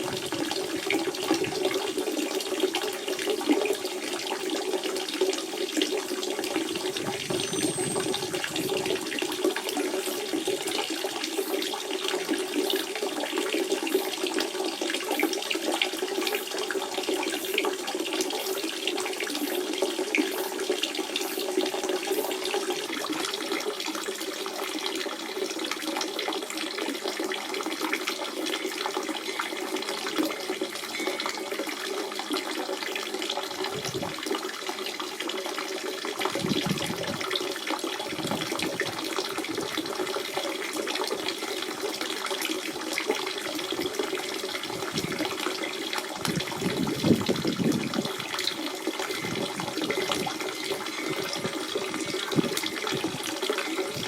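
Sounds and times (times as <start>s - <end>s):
spring water running and splashing: 0.0s - 54.0s.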